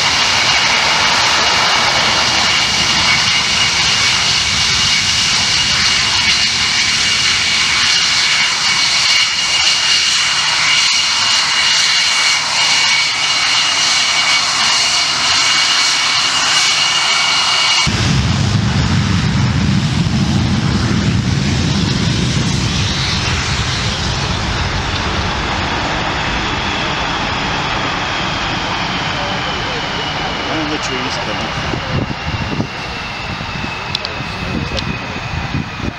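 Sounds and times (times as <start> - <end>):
deep jet rumble: 0.0 - 35.9
jet engine whine: 0.0 - 35.9.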